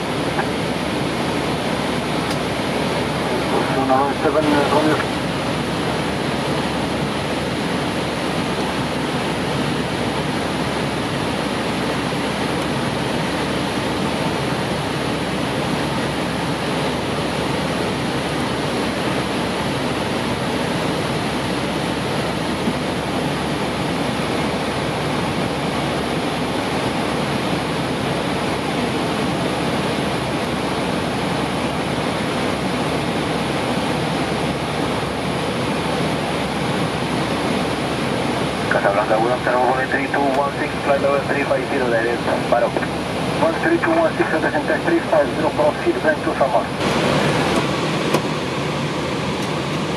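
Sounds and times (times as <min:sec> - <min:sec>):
rushing airflow noise: 0:00.0 - 0:49.9.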